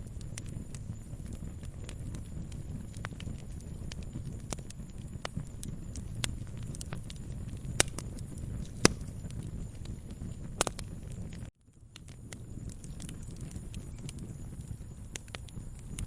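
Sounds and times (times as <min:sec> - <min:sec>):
flames rumbling: 0:00.0 - 0:16.0
sharp pops of fire: 0:00.0 - 0:16.0
wood fire crackling: 0:00.0 - 0:16.0.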